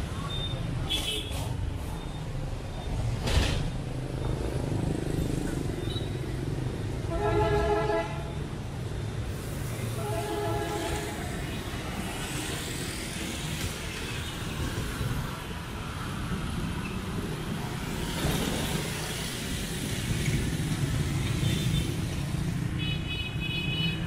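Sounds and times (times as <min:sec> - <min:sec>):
motorbikes and cars passing: 0:00.0 - 0:24.0.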